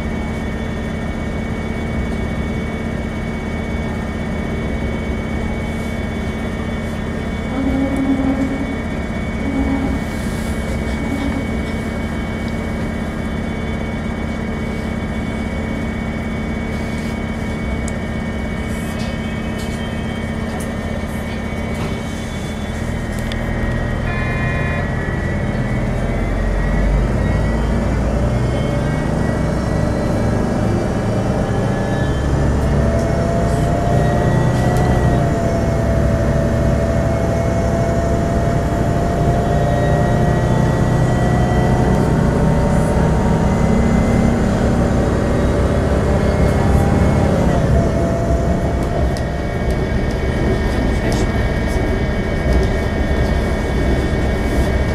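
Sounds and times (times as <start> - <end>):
deep low locomotive rumble: 0.0 - 54.9
train running rumble and whine: 0.0 - 54.9.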